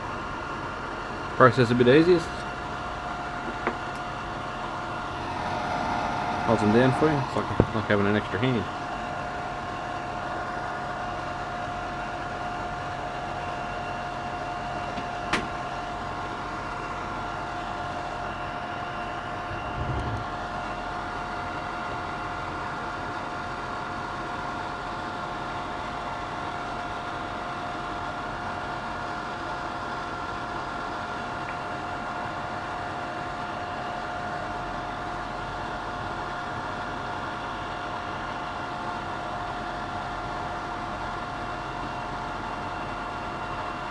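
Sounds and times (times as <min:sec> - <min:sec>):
extraction fan humming and whining: 0:00.0 - 0:43.9.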